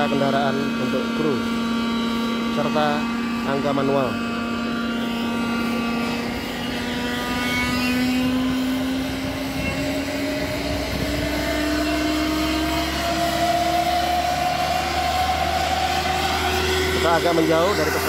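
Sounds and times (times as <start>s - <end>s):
jet turbine whine rising: 0.0s - 18.0s.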